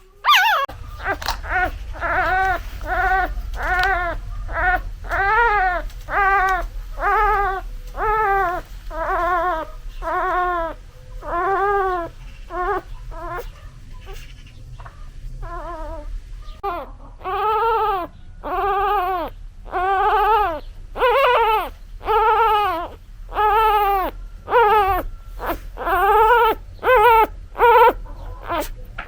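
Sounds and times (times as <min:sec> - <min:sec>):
puppy whimpering cries: 0:00.0 - 0:14.4, 0:15.4 - 0:29.0
low steady rumble: 0:00.0 - 0:29.0.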